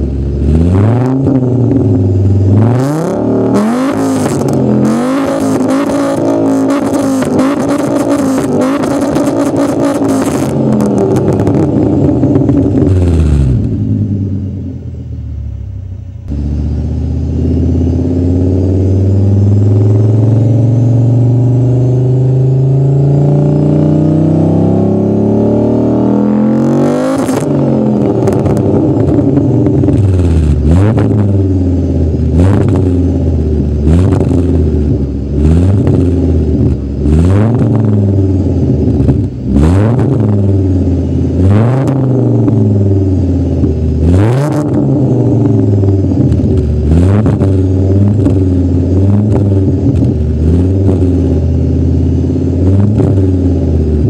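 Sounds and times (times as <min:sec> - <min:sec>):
exhaust crack: 0:00.0 - 0:21.9, 0:26.1 - 0:54.0
car engine revving: 0:00.0 - 0:54.0.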